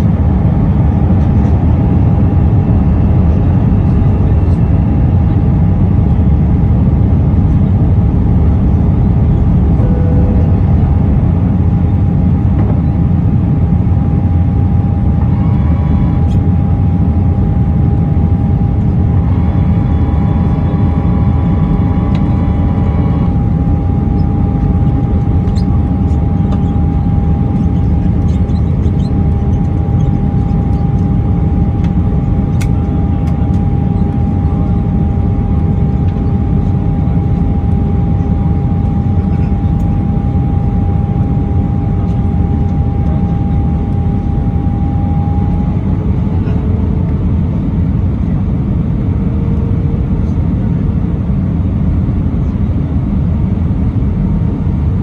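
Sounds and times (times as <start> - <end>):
aircraft cabin engine rumble: 0.0 - 55.0
steady whine: 0.0 - 55.0.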